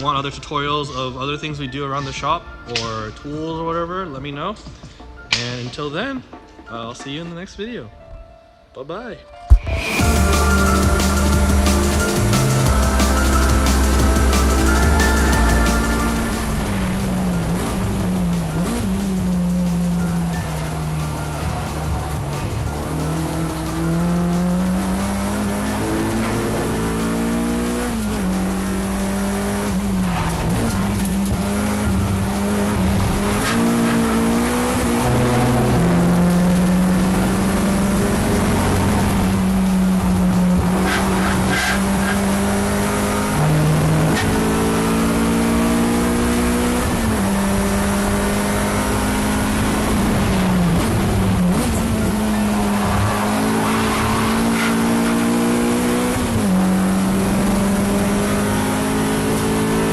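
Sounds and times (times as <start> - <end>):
race car engine at high revs: 9.5 - 59.9.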